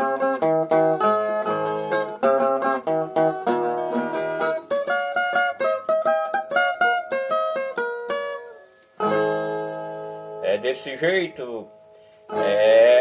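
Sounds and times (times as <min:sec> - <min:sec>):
steel-strung guitar picked melody: 0:00.0 - 0:13.0.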